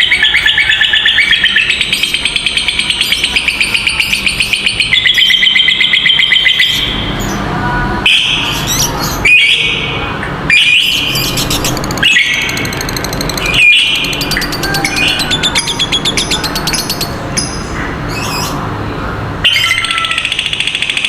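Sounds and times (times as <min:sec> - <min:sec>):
lovebirds shrill chattering: 0:00.0 - 0:07.5, 0:10.5 - 0:18.6, 0:19.4 - 0:21.0.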